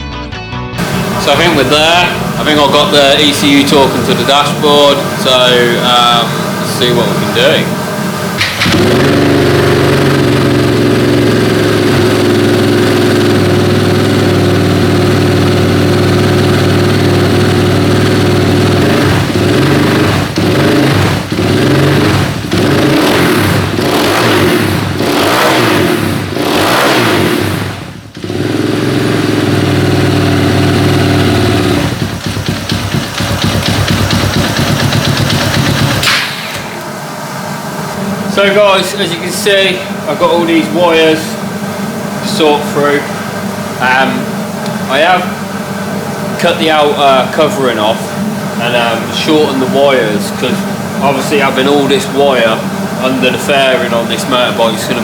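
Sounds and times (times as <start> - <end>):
motorcycle engine idling and revving: 0.8 - 55.0.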